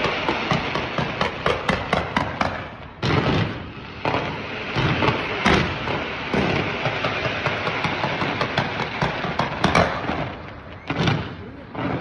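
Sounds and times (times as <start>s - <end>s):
fireworks blast: 0.0s - 12.0s
fireworks popping and crackling: 0.0s - 12.0s.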